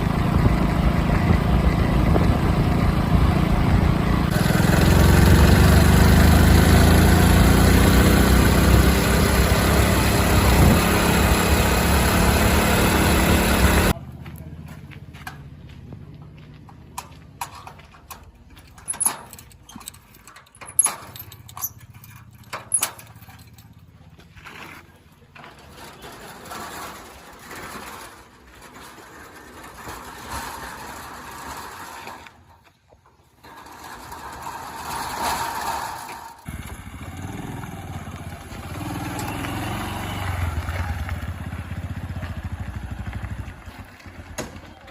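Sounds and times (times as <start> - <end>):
backhoe diesel engine running: 0.0 - 44.9.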